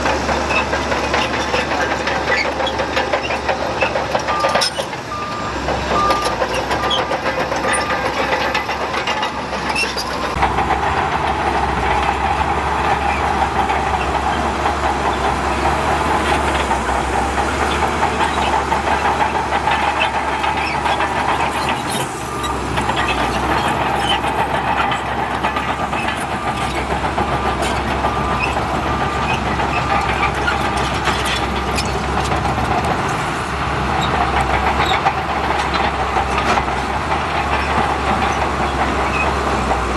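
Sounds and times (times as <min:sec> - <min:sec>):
metallic knocks and clanks: 0:00.0 - 0:33.1
diesel engine running under load: 0:00.0 - 0:39.9.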